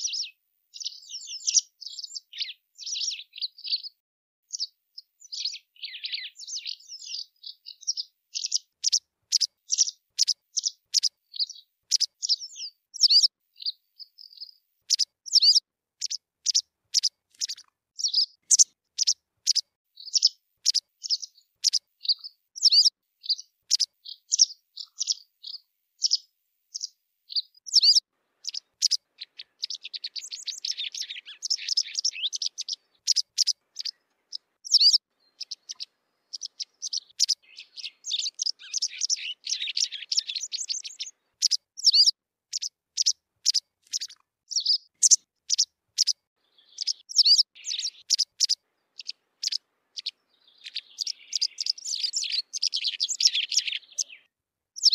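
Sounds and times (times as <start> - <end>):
bird chirping and twittering: 0.0 - 54.9.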